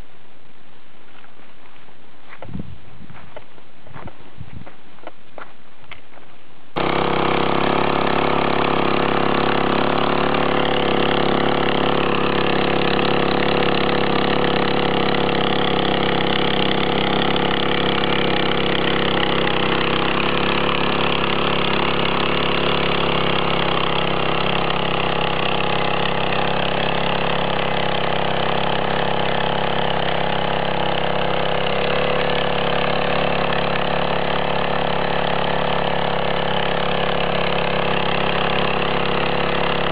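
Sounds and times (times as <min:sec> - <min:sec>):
small tiller engine running: 0:06.8 - 0:39.9.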